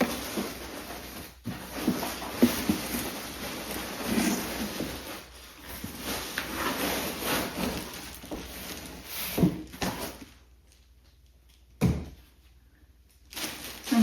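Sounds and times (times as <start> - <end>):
rustling and handling noises: 0.0 - 14.0.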